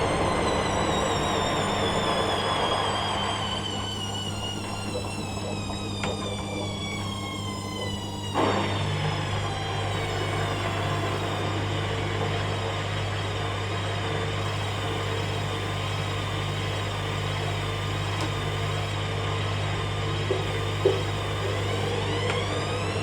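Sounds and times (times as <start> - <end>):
washing machine drum spinning: 0.0 - 19.0.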